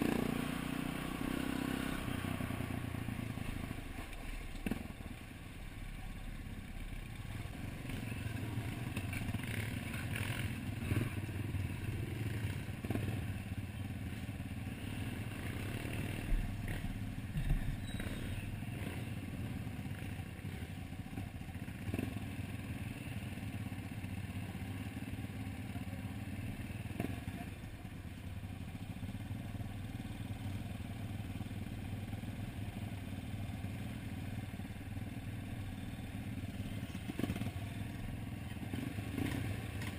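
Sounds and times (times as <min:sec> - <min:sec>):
dirt bike engine at low revs: 0:00.0 - 0:39.9.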